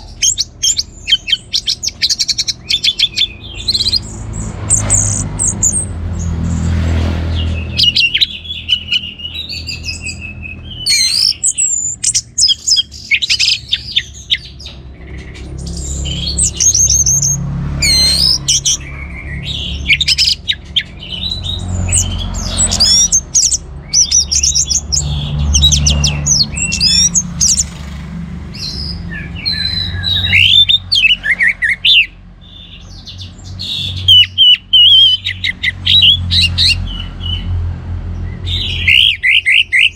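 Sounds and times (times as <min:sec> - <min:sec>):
thrush singing whistled phrases: 0:00.0 - 0:05.8, 0:07.3 - 0:14.7, 0:15.7 - 0:27.7, 0:28.5 - 0:37.4, 0:38.4 - 0:39.9.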